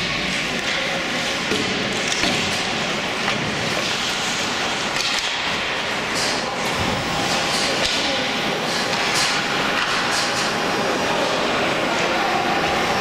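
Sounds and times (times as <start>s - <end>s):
hockey sticks and puck clacking: 0.0s - 11.4s.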